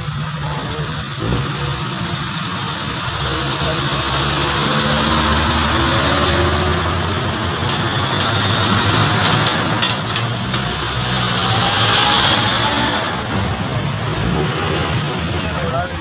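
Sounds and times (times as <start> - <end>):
road noise: 0.0 - 16.0
trucks passing: 0.0 - 16.0
vehicle engine rumble: 0.0 - 16.0.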